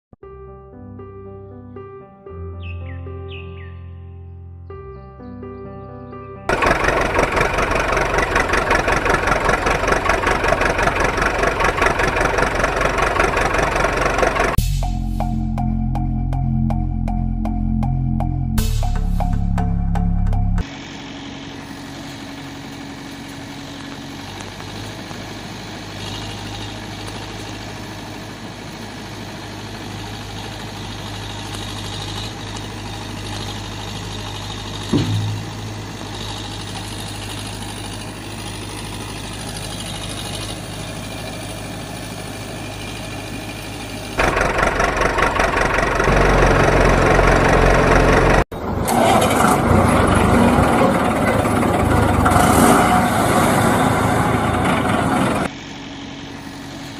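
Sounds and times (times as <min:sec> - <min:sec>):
engine idling: 0:06.5 - 0:56.9
loud engine sound: 0:06.5 - 0:56.9.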